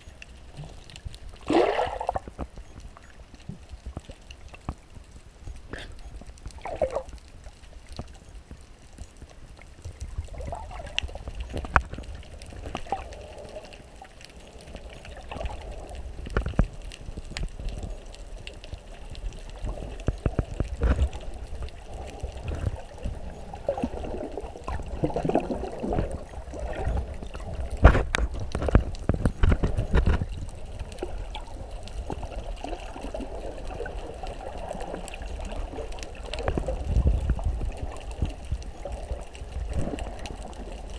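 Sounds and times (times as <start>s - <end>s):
low underwater rumble: 0.0s - 40.9s
underwater sloshing and gurgling: 0.0s - 40.9s.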